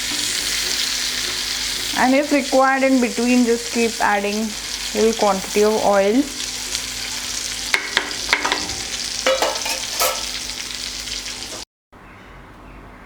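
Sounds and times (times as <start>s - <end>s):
chicken frying in oil: 0.0s - 11.6s.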